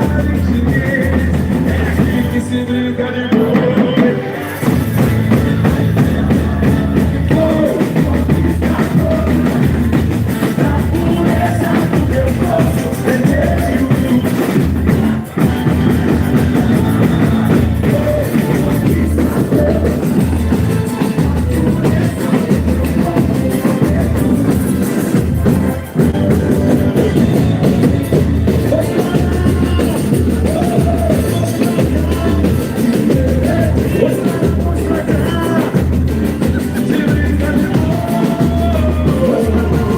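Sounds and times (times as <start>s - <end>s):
loud driving drums: 0.0s - 39.9s
person singing: 0.0s - 39.9s.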